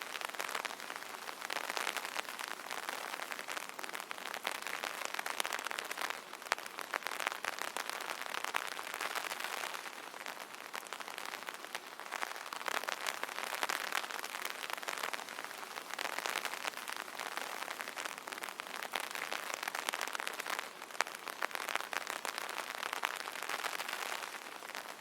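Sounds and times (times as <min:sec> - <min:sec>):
rain on an umbrella: 0:00.0 - 0:25.0.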